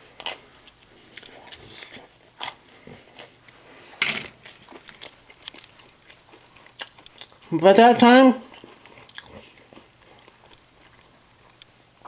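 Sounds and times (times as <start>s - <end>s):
person chewing crunchy food: 0.0s - 7.5s, 8.4s - 11.7s.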